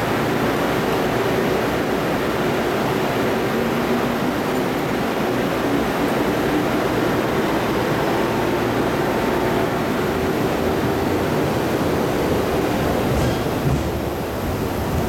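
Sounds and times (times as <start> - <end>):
electric train rolling past: 0.0 - 15.0.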